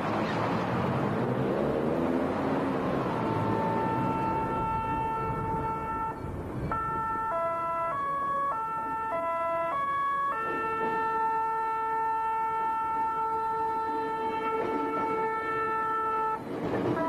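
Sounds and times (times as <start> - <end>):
train music horn melody: 3.0 - 17.0.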